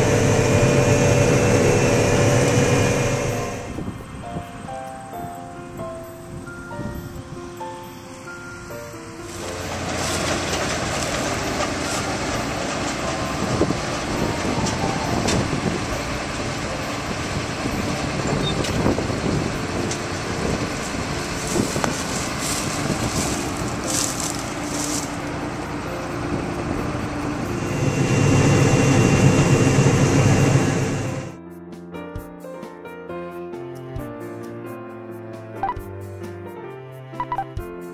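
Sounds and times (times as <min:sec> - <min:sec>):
combine harvester engine running: 0:00.0 - 0:06.5, 0:07.2 - 0:31.4.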